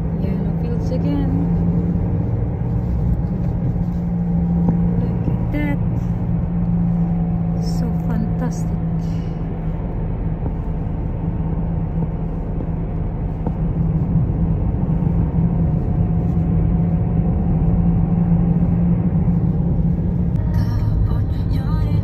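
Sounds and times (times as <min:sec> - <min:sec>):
car interior engine drone: 0:00.0 - 0:22.0.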